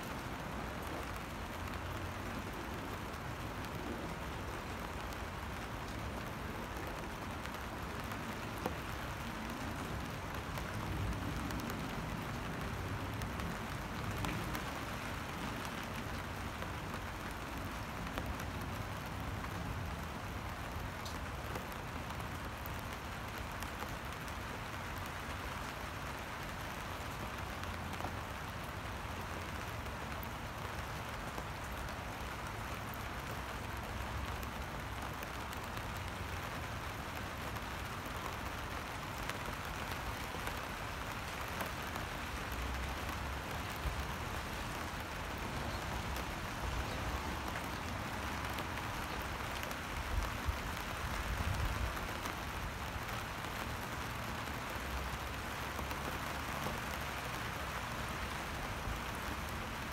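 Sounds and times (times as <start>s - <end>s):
rain on wet pavement: 0.0s - 59.9s.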